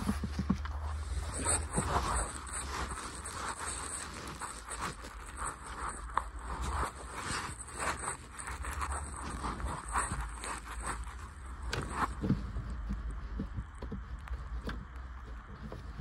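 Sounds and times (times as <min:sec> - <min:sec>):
plastic parts scraping and rustling: 0:00.0 - 0:16.0.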